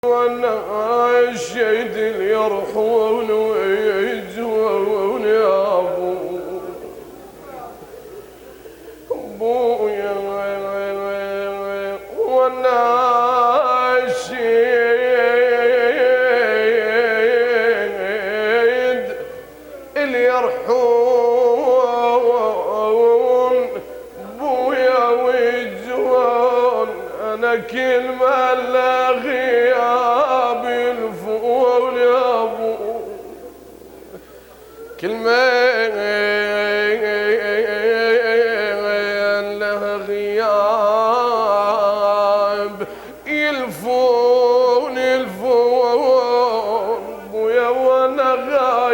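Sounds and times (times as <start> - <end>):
man chanting a lament: 0.0 - 7.8, 8.8 - 33.8, 34.7 - 48.9.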